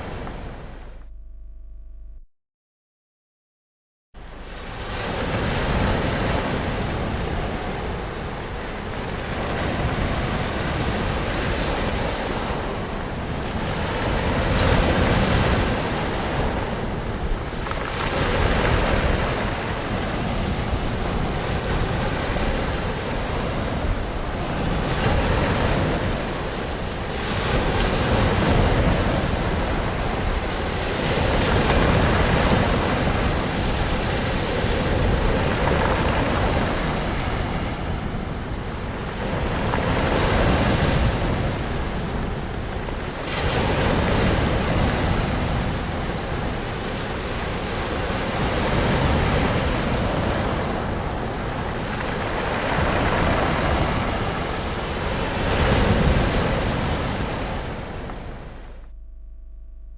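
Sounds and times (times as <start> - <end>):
ocean waves breaking: 4.2 - 58.8.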